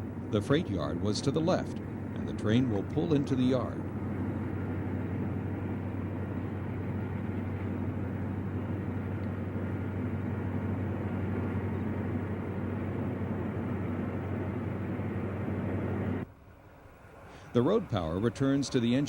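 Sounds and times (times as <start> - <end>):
diesel locomotive drone: 0.0 - 19.0.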